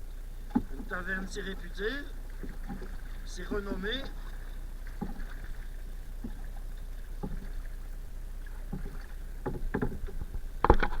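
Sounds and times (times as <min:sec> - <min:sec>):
paddle splashing water: 0:00.0 - 0:11.0.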